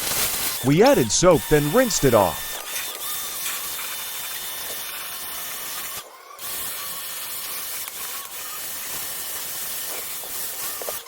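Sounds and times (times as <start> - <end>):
pressure washer spraying: 0.0 - 11.0.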